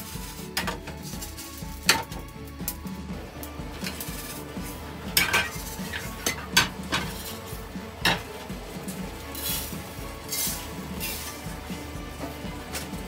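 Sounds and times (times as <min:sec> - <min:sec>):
dry seeds pouring into pan: 0:00.0 - 0:01.9, 0:03.4 - 0:06.2, 0:06.8 - 0:13.0
metal frying pans clattering: 0:00.0 - 0:02.3, 0:03.7 - 0:13.0.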